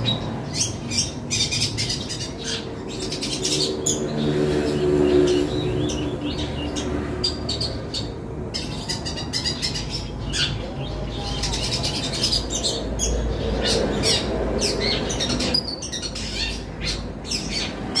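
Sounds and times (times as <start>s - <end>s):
bird singing harsh chirps: 0.0s - 18.0s.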